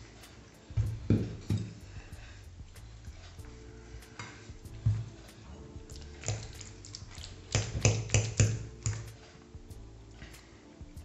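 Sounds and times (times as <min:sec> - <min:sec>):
background music with light ticks: 0:00.0 - 0:11.0.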